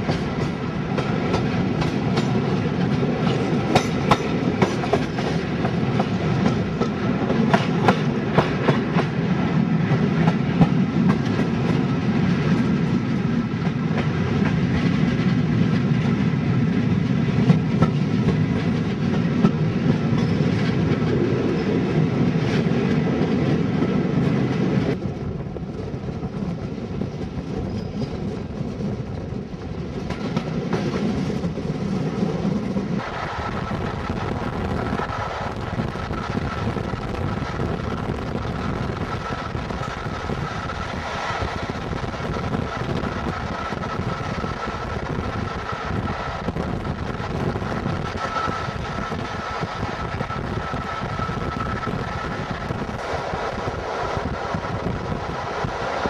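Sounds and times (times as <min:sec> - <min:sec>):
train coaches rumbling: 0:00.0 - 0:56.0.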